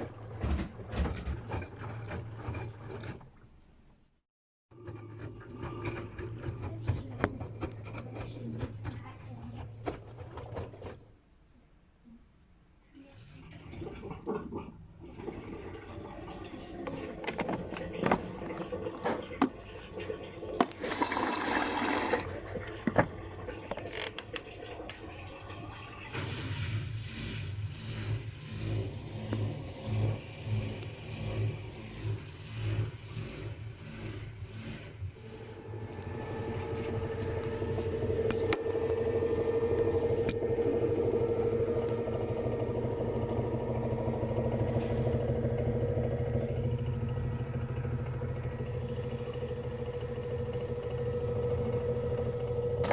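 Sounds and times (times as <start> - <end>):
washing machine motor hum: 0.0 - 3.5, 4.7 - 11.2, 13.0 - 52.9.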